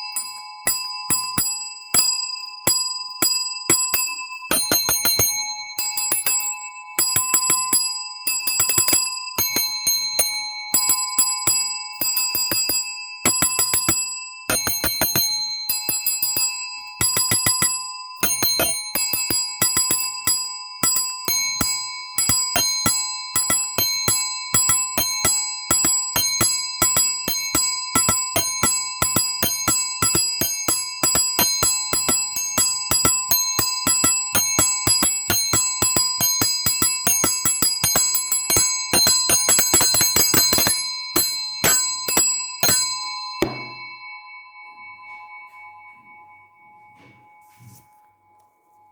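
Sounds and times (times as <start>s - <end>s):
small metal bell ringing: 0.0s - 48.9s.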